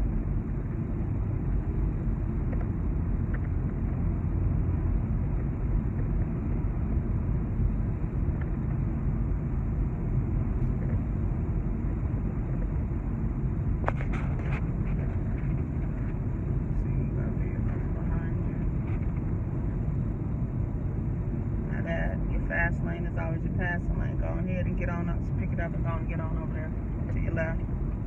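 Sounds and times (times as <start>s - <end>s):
road and tyre noise in car: 0.0s - 28.0s.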